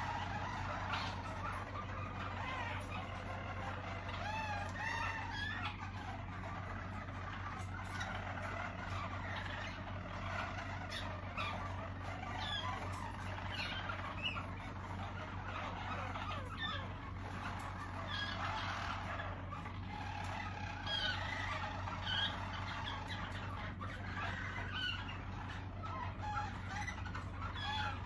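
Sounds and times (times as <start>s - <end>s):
canaries singing rolling song: 0.0s - 28.0s
steady low hum: 0.0s - 28.0s.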